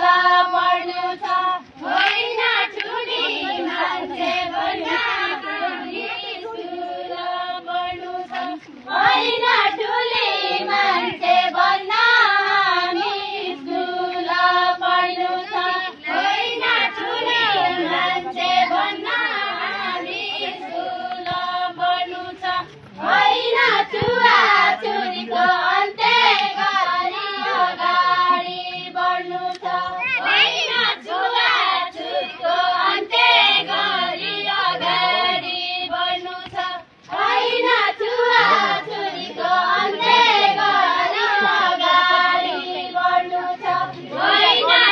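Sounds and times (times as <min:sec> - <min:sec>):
women singing folk song: 0:00.0 - 0:44.9.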